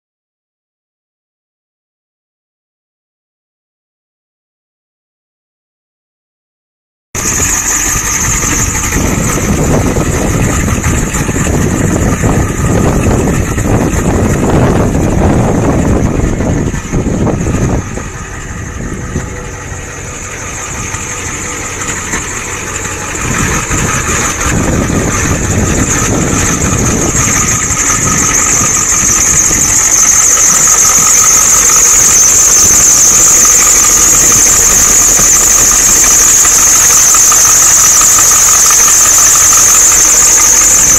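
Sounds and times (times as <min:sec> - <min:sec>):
diesel engine idling: 0:07.2 - 0:40.9
high-pitched squeal: 0:07.2 - 0:40.9.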